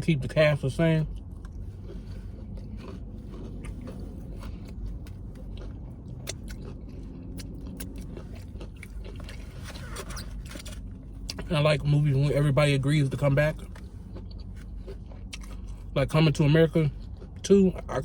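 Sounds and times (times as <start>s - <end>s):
person chewing food: 0.6s - 17.9s.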